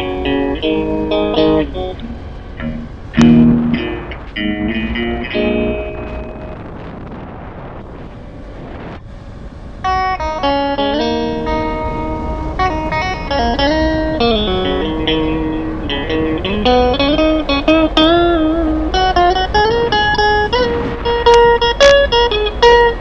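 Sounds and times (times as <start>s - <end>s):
guitar plucking melody with bends: 0.0s - 8.6s, 9.7s - 23.0s
steady hiss: 0.0s - 23.0s.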